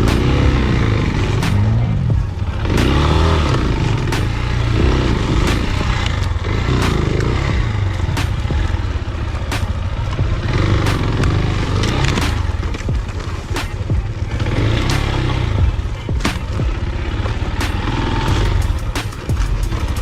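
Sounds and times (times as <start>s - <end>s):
motorcycle engine revving: 0.0s - 20.0s
motorcycle knocks and rattles: 0.0s - 20.0s.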